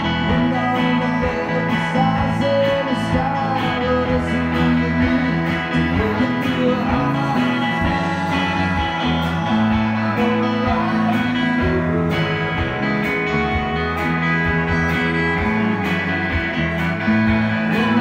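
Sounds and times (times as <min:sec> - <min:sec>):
country rock band playing: 0:00.0 - 0:18.0
electric bass: 0:00.0 - 0:18.0.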